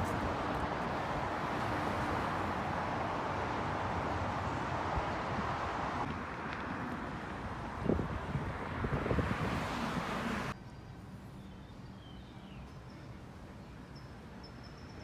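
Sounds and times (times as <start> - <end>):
traffic: 0.0 - 15.0
wind: 0.0 - 15.0.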